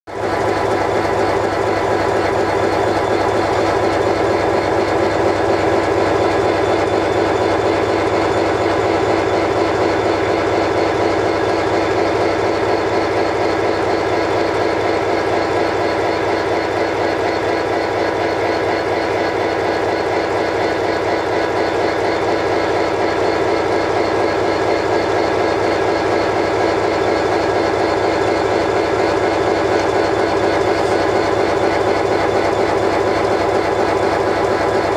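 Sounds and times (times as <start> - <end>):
diesel locomotive idling: 0.2 - 34.9.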